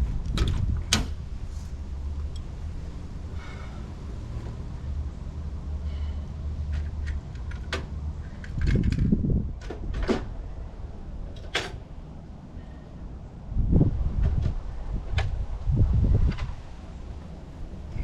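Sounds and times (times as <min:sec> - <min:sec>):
steady low hum: 0:00.0 - 0:09.6, 0:10.2 - 0:18.0.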